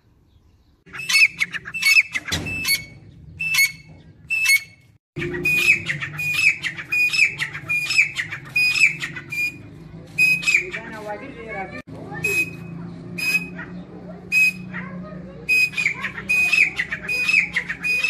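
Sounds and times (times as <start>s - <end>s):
bird calling shrill notes: 0.8s - 11.4s, 12.1s - 13.7s, 14.3s - 14.8s, 15.4s - 18.0s.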